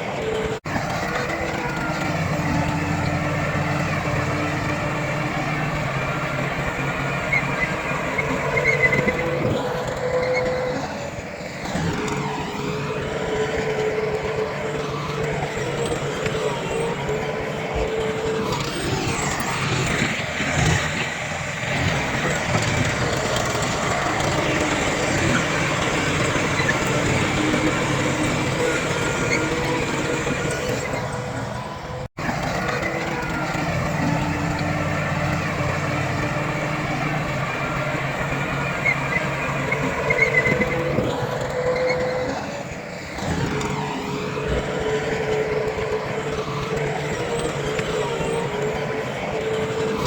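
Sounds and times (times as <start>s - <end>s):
heavy diesel machinery engine drone: 0.0s - 50.0s.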